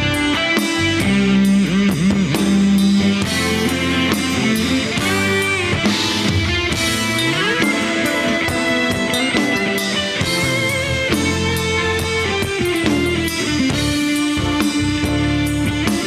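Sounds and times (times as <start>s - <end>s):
bass: 0.0s - 16.0s
drum kit: 0.0s - 16.0s
gliding lead melody line: 0.0s - 16.0s.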